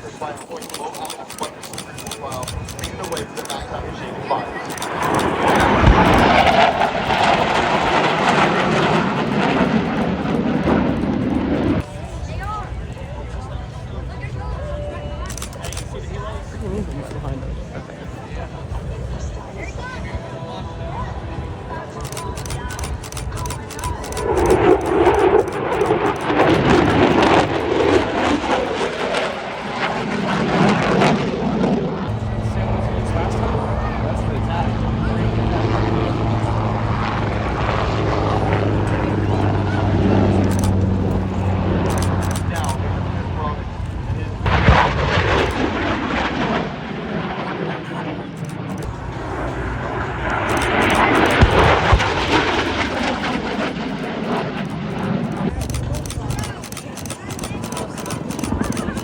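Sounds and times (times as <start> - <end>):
jet engine roar: 0.0 - 59.0.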